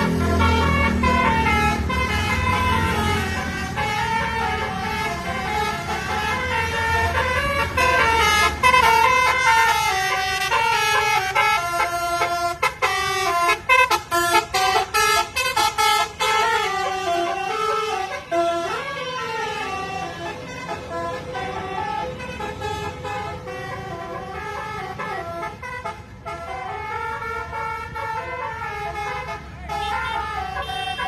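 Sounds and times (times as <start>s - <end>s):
musical bus horn melody: 0.0s - 31.0s.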